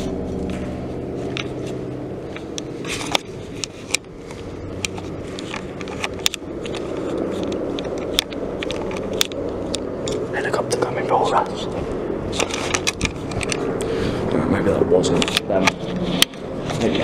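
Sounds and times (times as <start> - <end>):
sharp clicks and crackles: 0.0 - 13.9, 15.1 - 17.0
helicopter engine and rotor drone: 0.0 - 17.0.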